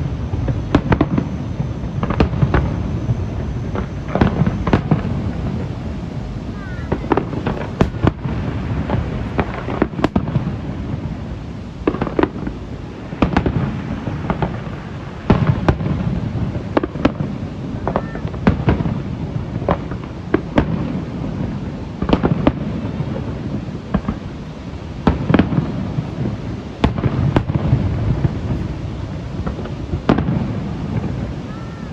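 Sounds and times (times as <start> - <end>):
echoing booms: 0.0 - 24.4, 25.0 - 31.9
firework bangs: 0.0 - 31.9.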